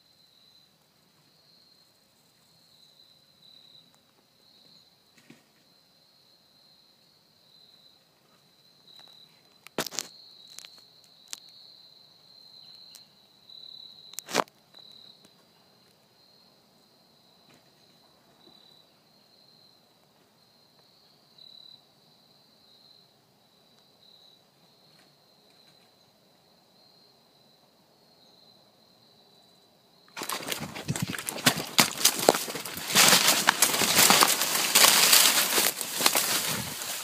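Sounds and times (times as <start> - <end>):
insects chorus: 0.0 - 37.0.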